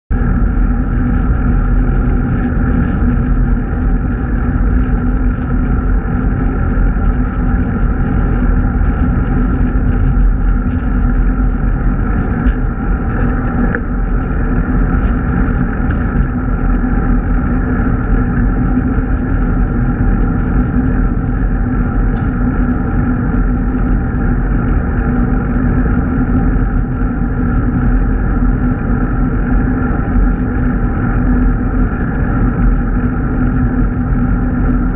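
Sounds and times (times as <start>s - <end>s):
road noise: 0.1s - 34.9s
wind rumble on microphone: 0.1s - 34.9s.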